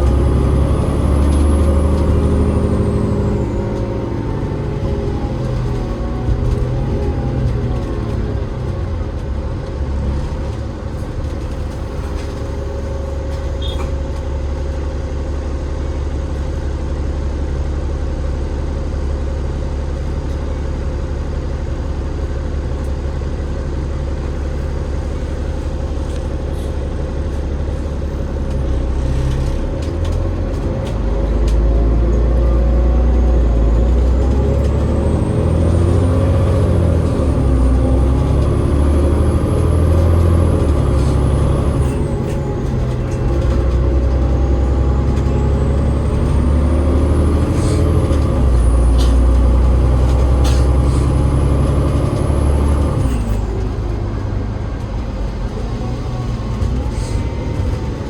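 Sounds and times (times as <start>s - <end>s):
bus engine droning: 0.0s - 58.0s.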